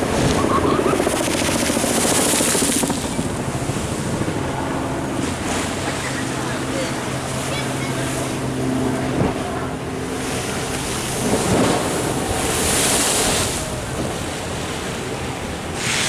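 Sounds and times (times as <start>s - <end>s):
waves washing against sea wall: 0.0s - 16.0s
wind buffeting microphone: 0.0s - 16.0s.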